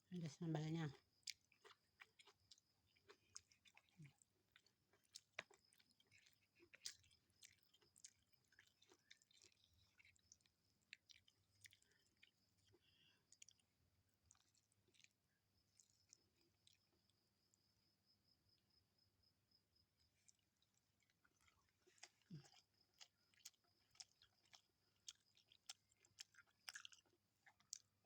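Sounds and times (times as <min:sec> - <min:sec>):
person chewing food: 0:00.2 - 0:17.7, 0:20.0 - 0:28.0.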